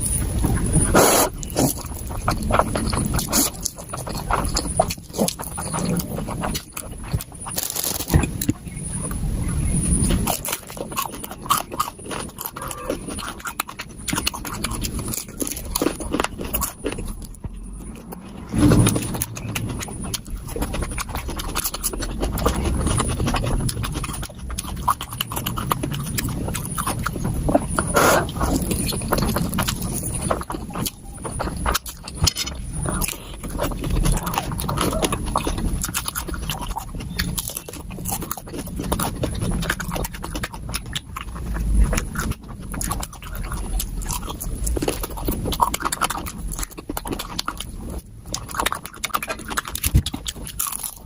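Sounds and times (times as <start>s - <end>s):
sped-up chewing and crunching: 0.0s - 51.0s.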